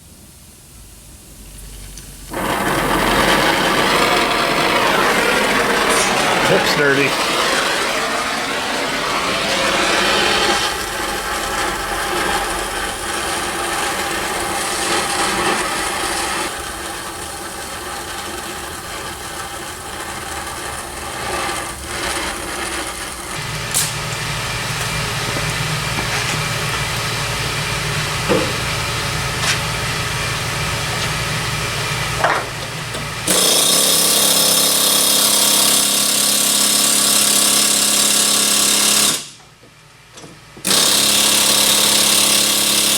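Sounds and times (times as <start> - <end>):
power tool noise: 2.3 - 39.4, 40.6 - 42.9.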